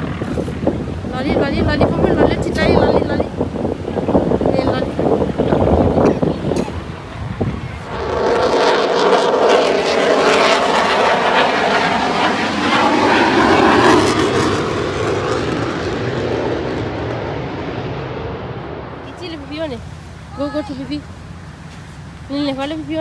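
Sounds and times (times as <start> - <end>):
airplane engine drone passing: 0.0 - 23.0.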